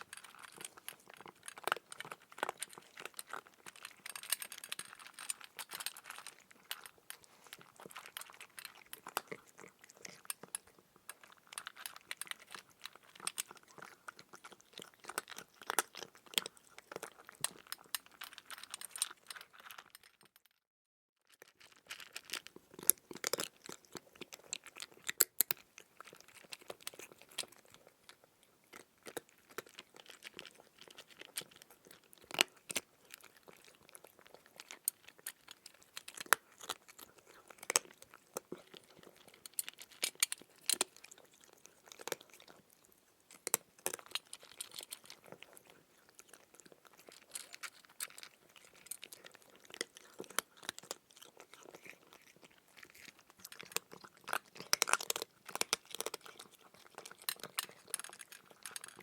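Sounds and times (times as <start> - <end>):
cat crunching food: 0.0 - 20.4, 21.3 - 59.0.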